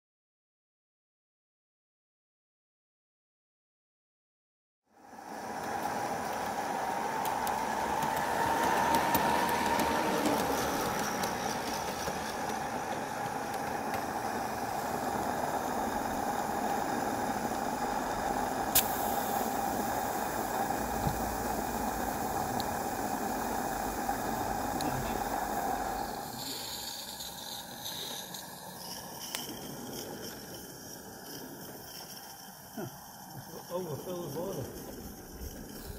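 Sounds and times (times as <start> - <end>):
steam locomotive burner hissing: 4.9 - 35.9.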